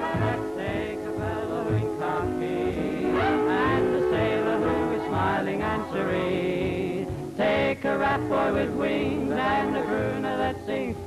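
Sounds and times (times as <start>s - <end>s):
male vocal group singing: 0.0s - 11.0s.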